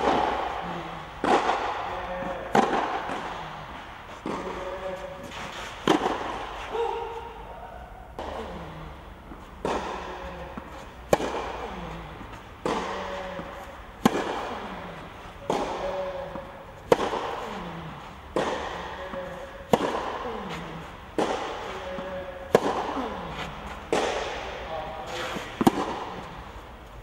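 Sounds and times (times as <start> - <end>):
tennis racket hitting ball: 0.0 - 7.4, 8.2 - 27.0.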